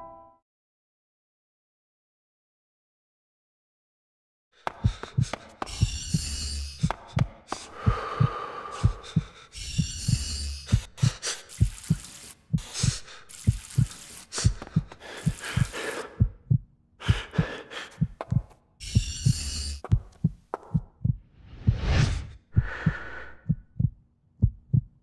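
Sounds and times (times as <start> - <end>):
heartbeat thumps: 4.7 - 25.0.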